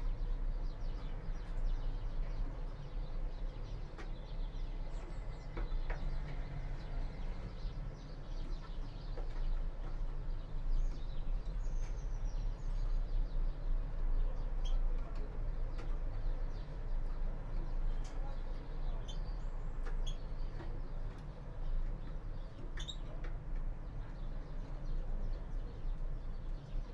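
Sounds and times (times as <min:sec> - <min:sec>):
finches chirping: 0:00.1 - 0:23.2.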